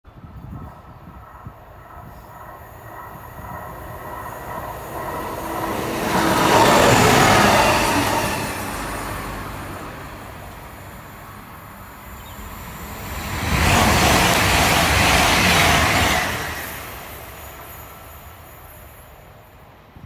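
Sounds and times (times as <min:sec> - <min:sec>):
rail vehicle rumble and wheel noise: 0:00.1 - 0:20.0.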